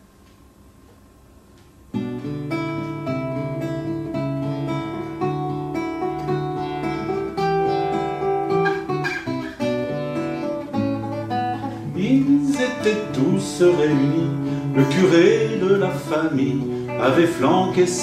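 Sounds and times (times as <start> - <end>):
fingerstyle classical guitar: 1.9 - 18.0.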